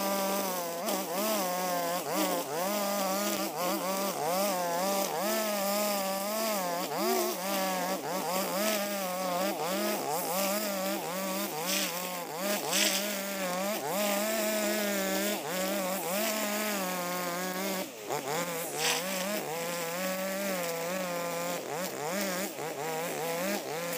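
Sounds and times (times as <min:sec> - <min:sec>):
brush cutter cutting grass: 0:00.0 - 0:23.9.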